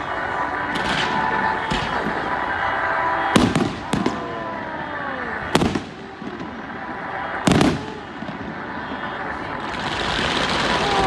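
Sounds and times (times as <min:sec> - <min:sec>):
falling whistling tones: 0:00.0 - 0:11.0
fireworks bangs: 0:00.0 - 0:11.0.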